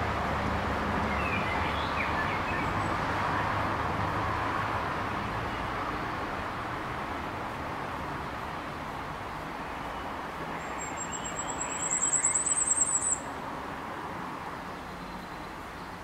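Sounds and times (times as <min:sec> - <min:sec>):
distant traffic hum: 0:00.0 - 0:16.0.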